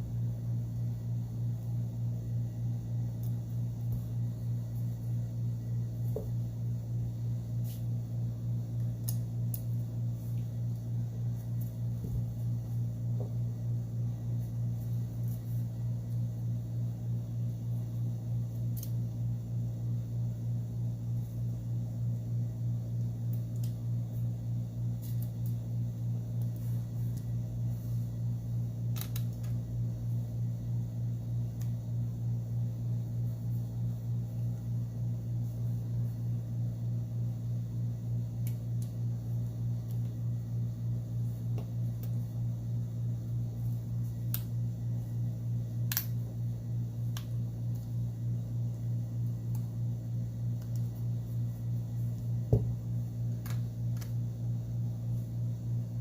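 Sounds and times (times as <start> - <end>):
low pulsing hum: 0.0 - 56.0.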